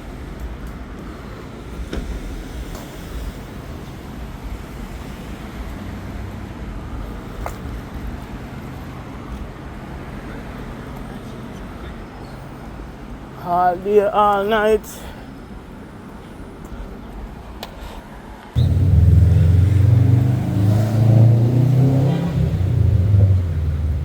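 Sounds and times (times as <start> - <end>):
hum of passing vehicles: 0.0 - 24.0.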